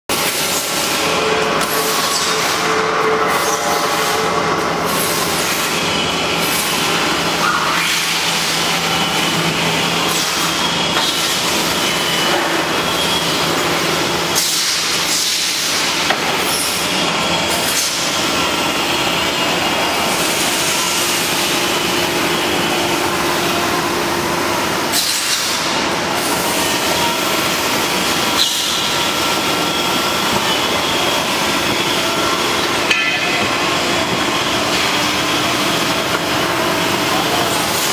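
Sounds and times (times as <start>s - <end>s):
conveyor mechanical hum and rumble: 0.1s - 37.9s.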